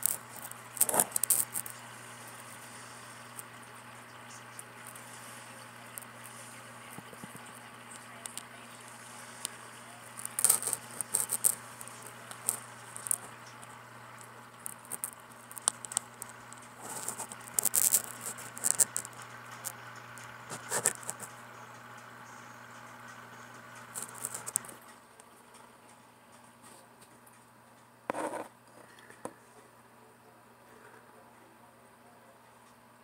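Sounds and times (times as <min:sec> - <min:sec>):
sharp clicks and rattles: 0:00.0 - 0:27.9
aquarium air pump hum: 0:00.0 - 0:33.0.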